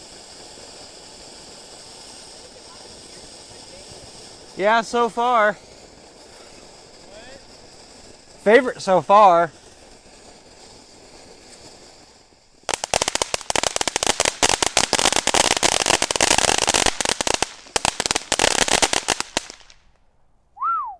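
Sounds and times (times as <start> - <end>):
firework hissing and crackling: 0.0 - 20.0.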